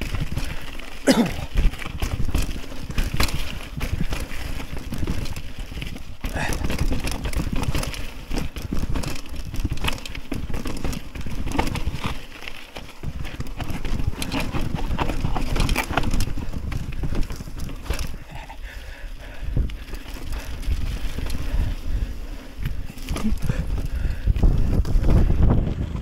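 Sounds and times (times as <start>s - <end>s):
bike rattling over stony path: 0.0s - 26.0s
wind rumbling on microphone: 0.0s - 26.0s.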